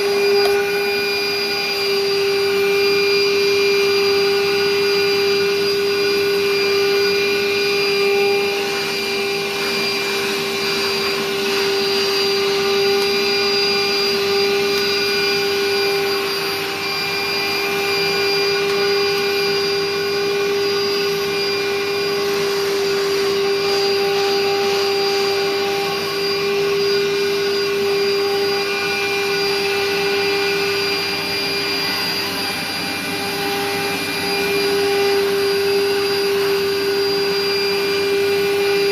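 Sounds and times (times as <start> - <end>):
canister vacuum running: 0.0 - 38.9.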